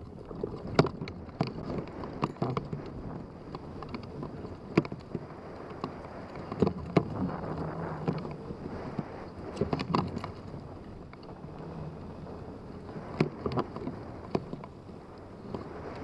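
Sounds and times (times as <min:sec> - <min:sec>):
wind buffeting knocks: 0:00.0 - 0:16.0
wind rushing over microphone: 0:00.0 - 0:16.0.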